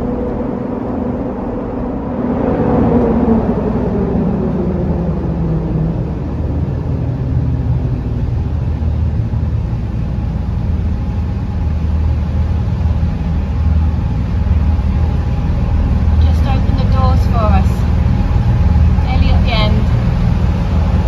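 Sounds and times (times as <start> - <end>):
boat engine droning in tunnel: 0.0 - 21.0.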